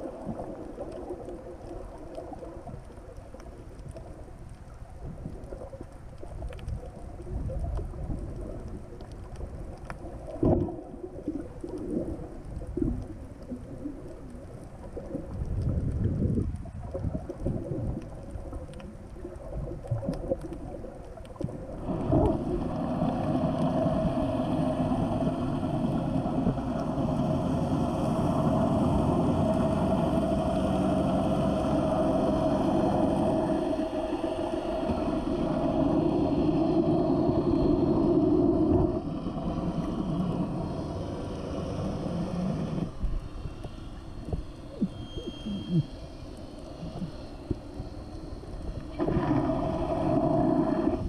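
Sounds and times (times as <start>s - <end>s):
boat motor drone underwater: 0.0s - 51.0s
muffled underwater sound: 0.0s - 51.0s.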